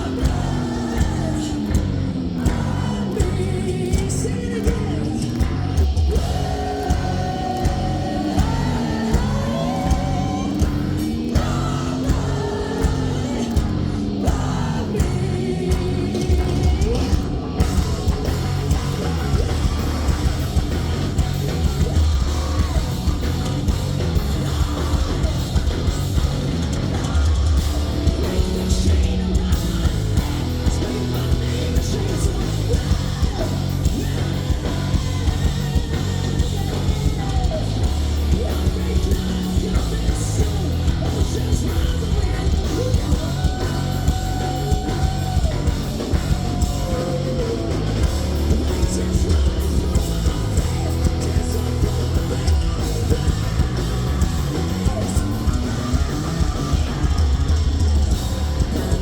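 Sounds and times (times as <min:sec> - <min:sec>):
distorted electric guitars: 0:00.0 - 0:59.0
drums: 0:00.0 - 0:59.0
person singing: 0:00.0 - 0:59.0.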